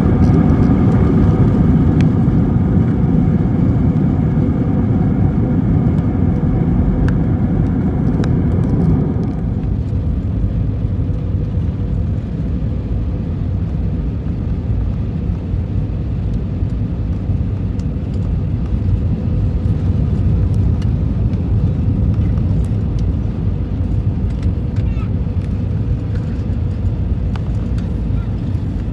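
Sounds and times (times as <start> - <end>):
airplane cabin engine rumble: 0.0 - 28.9
high engine whine: 0.0 - 28.9.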